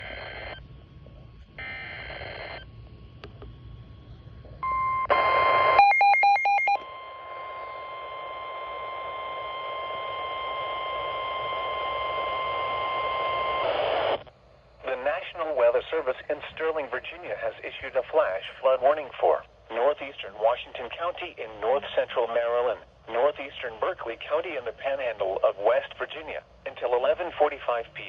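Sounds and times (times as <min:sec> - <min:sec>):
radio static hiss: 0:00.0 - 0:05.8, 0:07.1 - 0:28.0.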